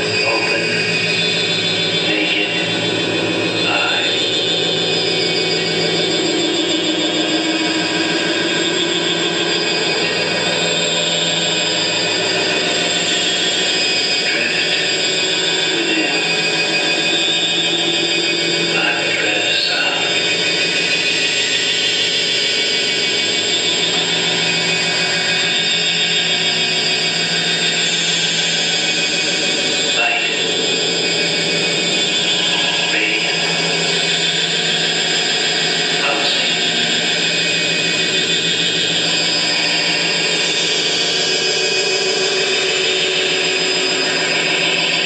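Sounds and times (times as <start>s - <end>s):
electronic noise drone: 0.0s - 45.0s
low hum: 0.0s - 45.0s.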